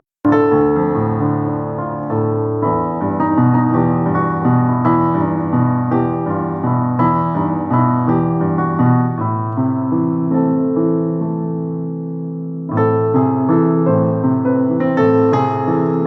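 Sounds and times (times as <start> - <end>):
solo piano playing: 0.2 - 16.0.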